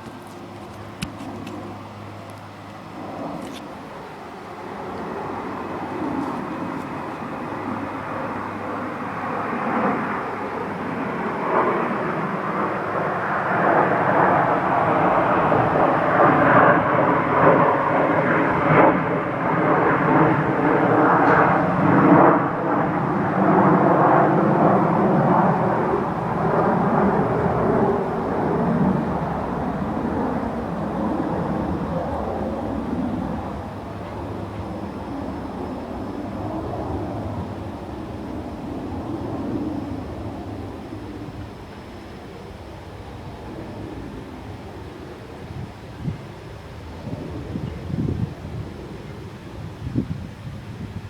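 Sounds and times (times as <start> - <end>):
airplane engine rumble: 0.0 - 51.0.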